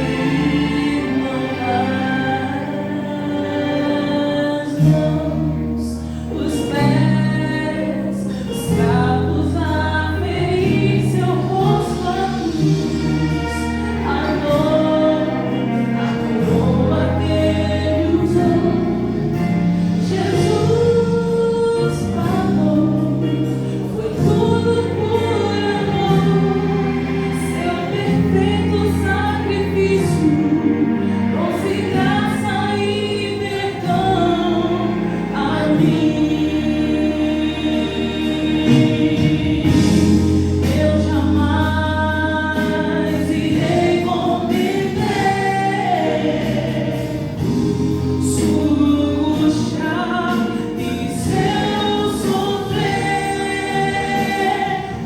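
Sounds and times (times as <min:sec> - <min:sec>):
choir singing gospel: 0:00.0 - 0:55.0
instrumental backing: 0:00.0 - 0:55.0.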